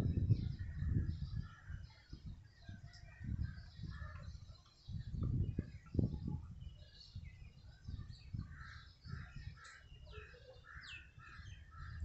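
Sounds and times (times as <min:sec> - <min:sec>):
birds calling harshly: 0:00.0 - 0:12.0.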